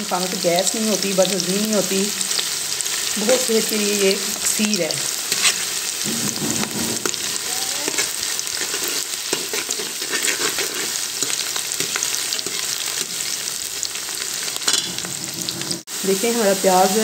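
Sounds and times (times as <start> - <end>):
onions sizzling in hot oil: 0.0 - 17.0
onions being stirred: 0.1 - 17.0.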